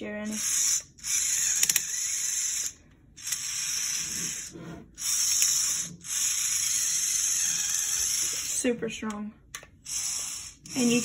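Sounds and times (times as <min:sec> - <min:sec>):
small motor whirring: 0:00.2 - 0:08.8, 0:09.8 - 0:11.0.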